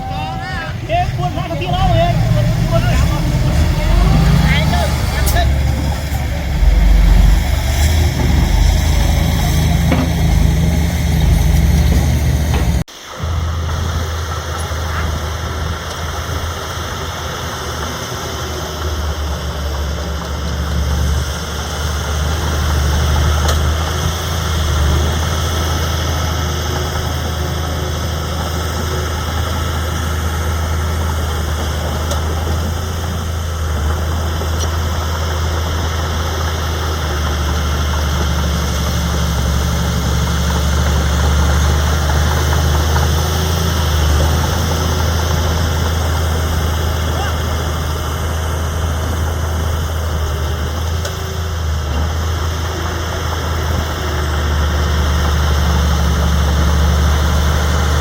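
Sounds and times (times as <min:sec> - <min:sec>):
heavy machinery engine drone: 0:00.0 - 0:58.0.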